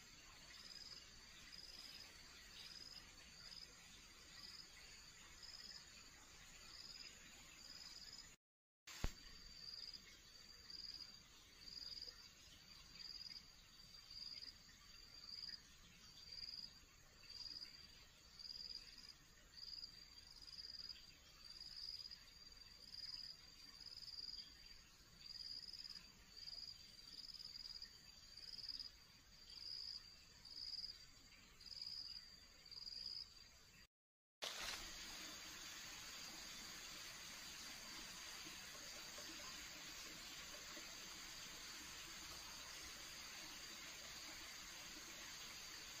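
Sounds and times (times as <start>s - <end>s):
quiet forest ambience: 0.0s - 46.0s.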